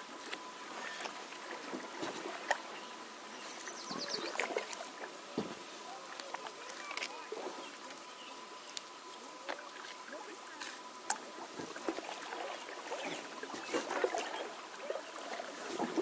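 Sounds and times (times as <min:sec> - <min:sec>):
paddle splashing water: 0:00.0 - 0:16.0.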